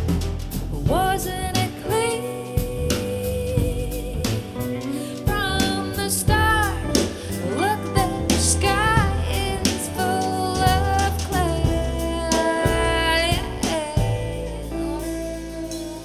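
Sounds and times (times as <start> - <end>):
song with vocals bass and drums: 0.0 - 16.0.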